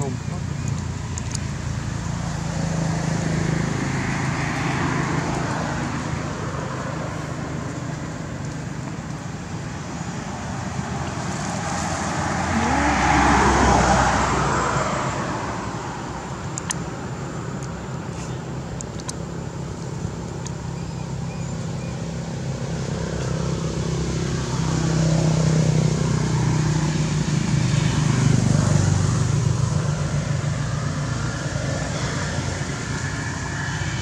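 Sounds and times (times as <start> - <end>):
passing vehicles: 0.0 - 34.0.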